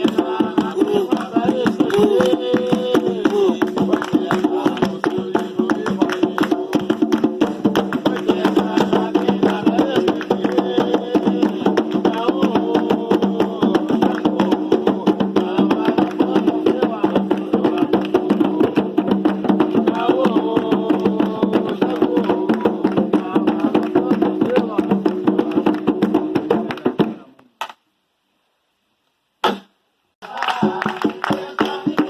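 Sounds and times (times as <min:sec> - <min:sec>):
voices singing: 0:00.0 - 0:25.8, 0:30.2 - 0:32.0
hand drums playing fast rhythm: 0:00.0 - 0:27.2, 0:30.5 - 0:32.0.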